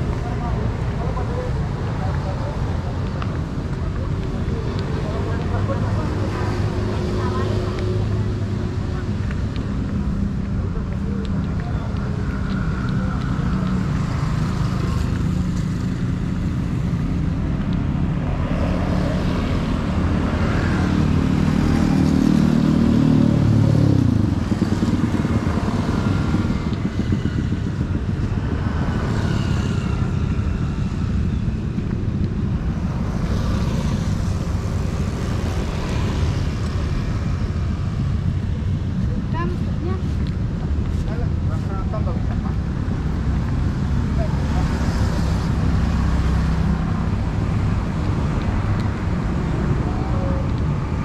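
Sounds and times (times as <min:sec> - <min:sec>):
motorcycle traffic: 0:00.0 - 0:51.0.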